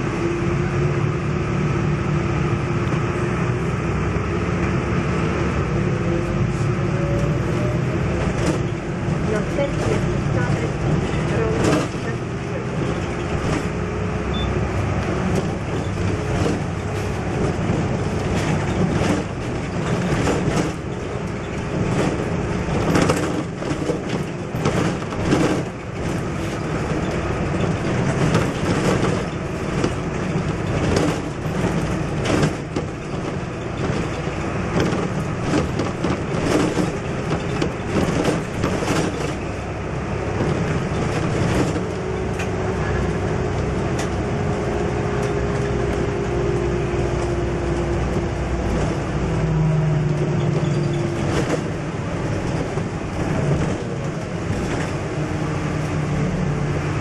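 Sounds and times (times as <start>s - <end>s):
bus body rattling and knocking: 0.0s - 57.0s
bus diesel engine drone: 0.0s - 57.0s
road noise: 0.0s - 57.0s.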